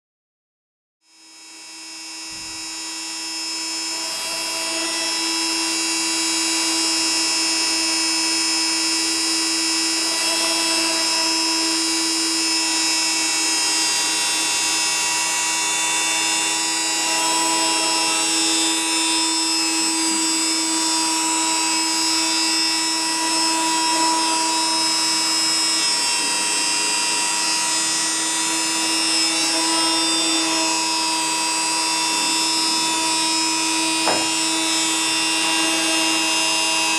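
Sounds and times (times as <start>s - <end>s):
cnc machine motor whine: 1.0s - 36.9s.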